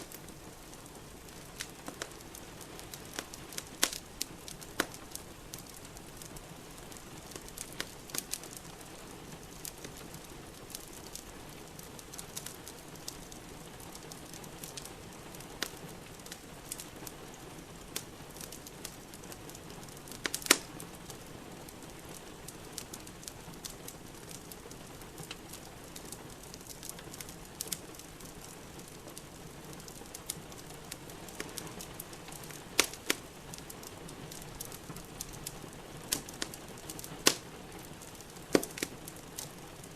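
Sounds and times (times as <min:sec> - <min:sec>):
rain hissing: 0:00.0 - 0:39.9
wood fire crackling and popping: 0:00.0 - 0:39.9.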